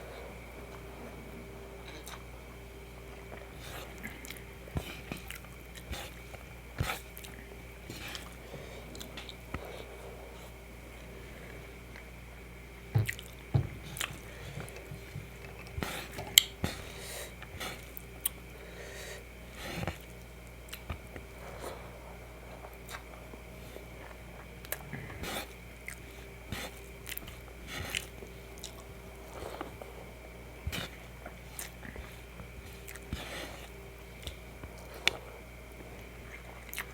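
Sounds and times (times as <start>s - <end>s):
faint steady hum: 0.0s - 36.9s
chewing and biting: 1.8s - 10.2s, 11.9s - 18.6s, 19.5s - 36.9s.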